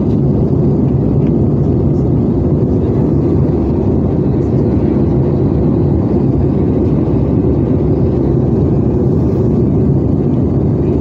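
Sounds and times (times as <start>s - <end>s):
airflow over fuselage: 0.0s - 11.0s
jet engine rumble in cabin: 0.0s - 11.0s.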